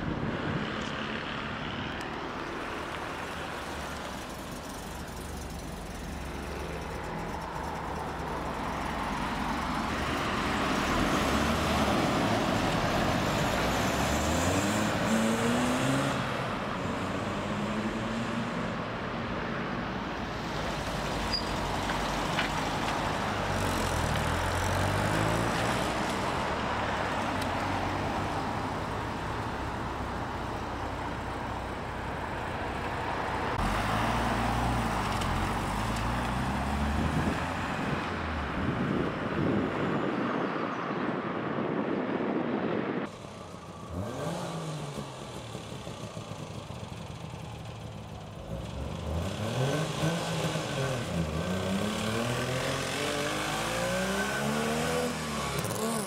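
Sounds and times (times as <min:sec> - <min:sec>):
car engines accelerating: 0:00.5 - 0:19.1, 0:20.4 - 0:40.4, 0:42.3 - 0:56.0.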